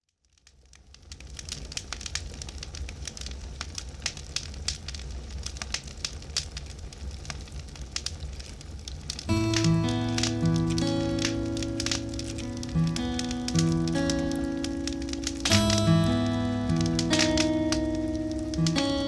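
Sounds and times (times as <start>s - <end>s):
campfire crackling and popping: 0.1s - 19.0s
low rumble of flames: 0.1s - 19.0s.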